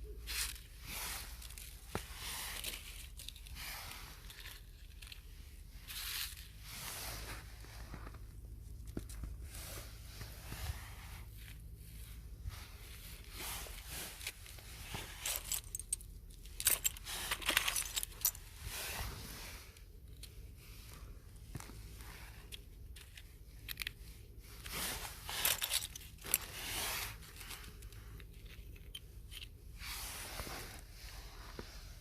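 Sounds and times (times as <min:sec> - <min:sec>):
close-up rustling and crinkling: 0:00.0 - 0:32.0.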